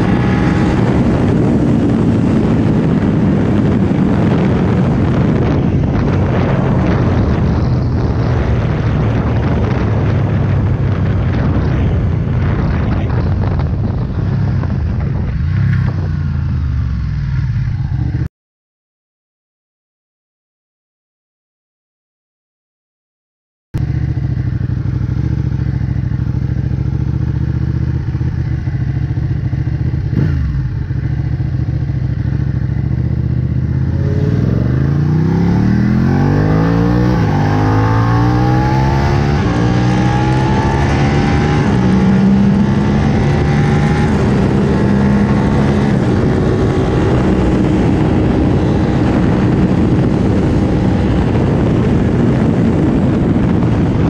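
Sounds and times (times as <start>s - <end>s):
wind rushing: 0.0s - 16.6s, 24.0s - 54.0s
motorcycle engine accelerating: 0.0s - 18.3s, 23.8s - 54.0s.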